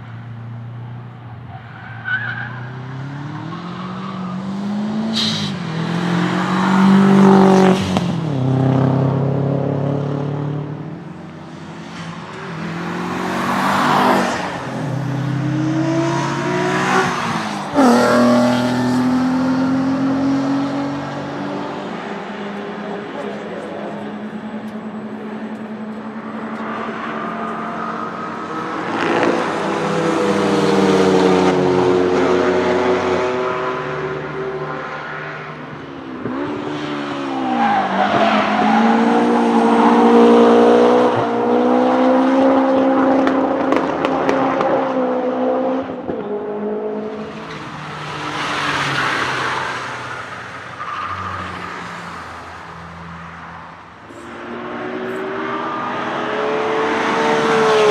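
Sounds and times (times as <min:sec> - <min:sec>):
race cars passing at speed: 0:00.0 - 0:57.9.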